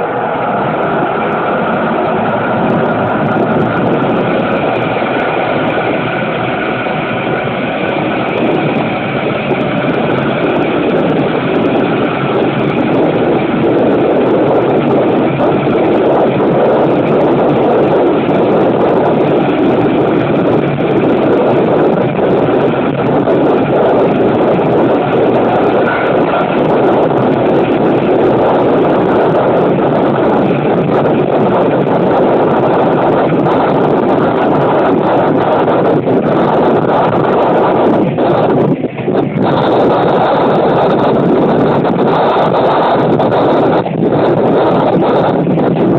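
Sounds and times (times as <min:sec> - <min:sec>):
diesel engine drone: 0:00.0 - 0:45.9
train wheels on rails: 0:00.0 - 0:45.9
wind buffeting microphone: 0:00.0 - 0:45.9.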